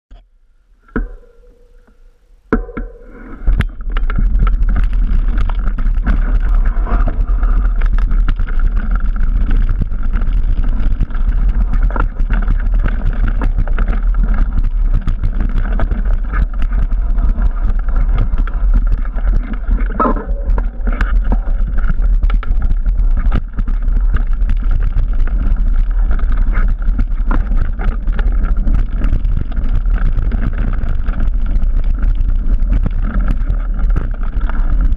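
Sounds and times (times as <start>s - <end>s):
mountain bike rattling and knocking: 2.5s - 34.9s.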